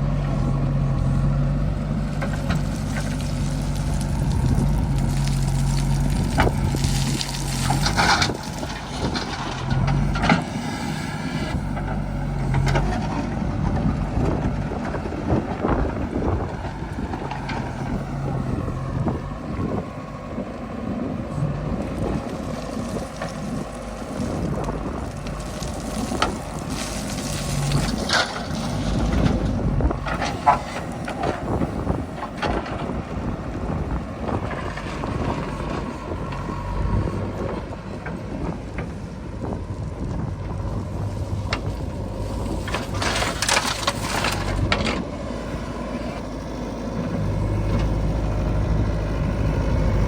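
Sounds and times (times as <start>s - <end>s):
diesel engine running: 0.0s - 50.0s
wind on microphone: 2.4s - 50.0s.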